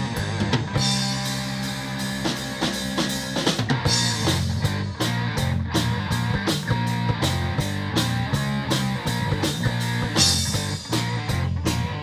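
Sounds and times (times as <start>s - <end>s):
bass guitar: 0.0s - 12.0s
drum kit beat: 0.0s - 12.0s
electric guitar: 0.0s - 12.0s.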